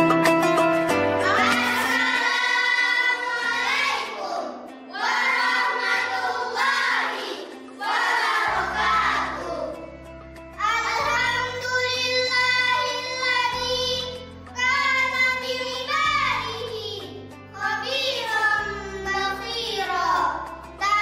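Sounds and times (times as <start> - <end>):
musical backing track: 0.0 - 21.0
children singing together: 1.2 - 9.9, 10.6 - 21.0.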